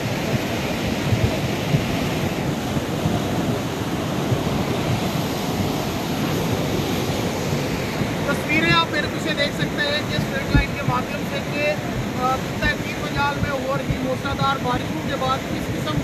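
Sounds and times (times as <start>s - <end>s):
floodwater rushing and churning: 0.0s - 16.0s.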